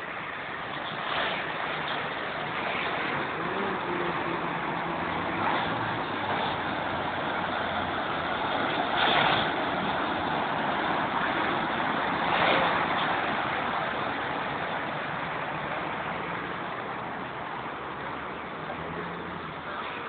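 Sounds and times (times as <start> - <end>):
cars splashing through water: 0.0 - 20.0.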